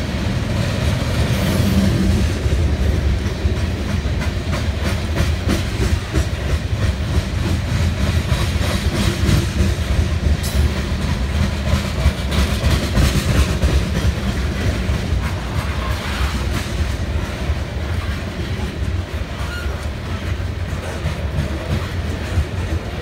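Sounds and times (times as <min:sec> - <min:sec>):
freight train rumbling past: 0:00.0 - 0:23.0
wheels clattering over rails: 0:00.0 - 0:23.0.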